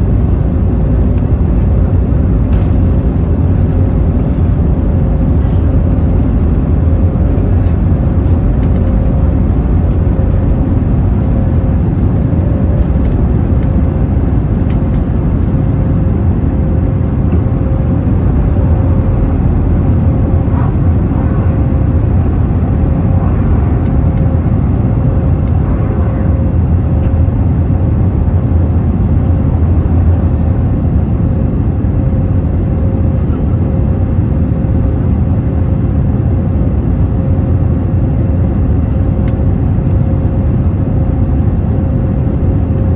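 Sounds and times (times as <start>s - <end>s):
jet engine rumble: 0.0s - 42.9s.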